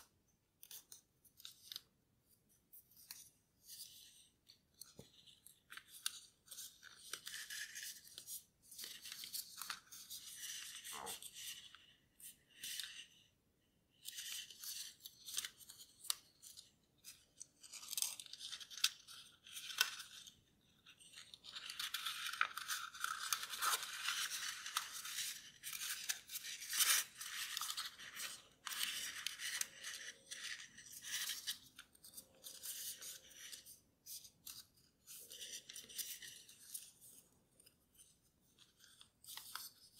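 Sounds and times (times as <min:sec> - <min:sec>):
paper folding and crinkling: 0:00.0 - 0:13.2, 0:13.9 - 0:39.9.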